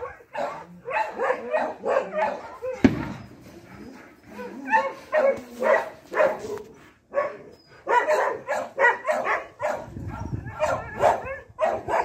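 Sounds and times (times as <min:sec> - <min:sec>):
dog barking and whining: 0:00.0 - 0:12.0.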